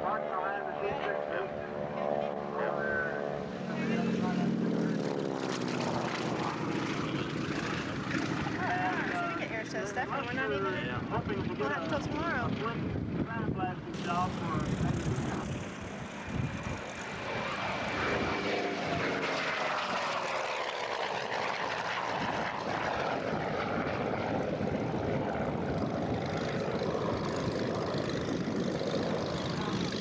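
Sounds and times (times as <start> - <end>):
propeller airplane flying past: 0.0 - 30.0.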